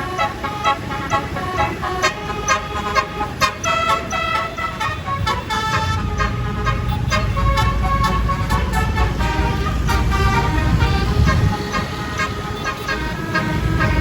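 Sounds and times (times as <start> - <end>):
bus engine rumble: 0.0 - 14.0
multi-tone air horn melody: 0.0 - 14.0.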